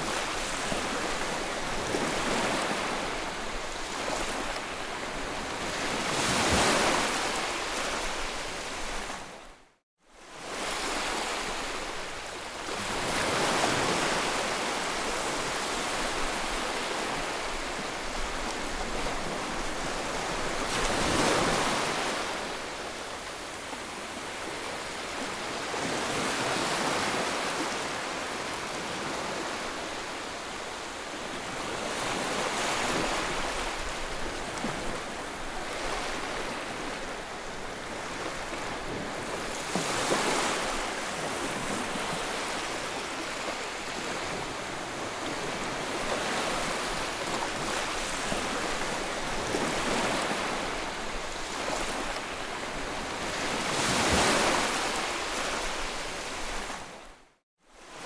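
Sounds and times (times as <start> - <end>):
ocean waves breaking: 0.0 - 9.4, 12.7 - 57.1.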